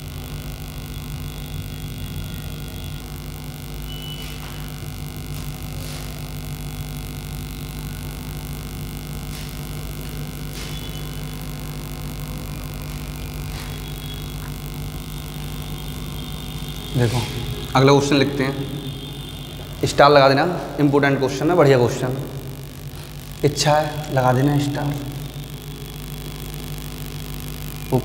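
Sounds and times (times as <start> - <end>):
electrical mains hum and hiss: 0.0 - 28.0.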